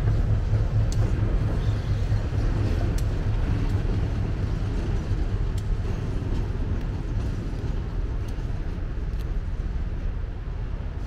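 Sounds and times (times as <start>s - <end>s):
departing train rumble: 0.0s - 11.0s.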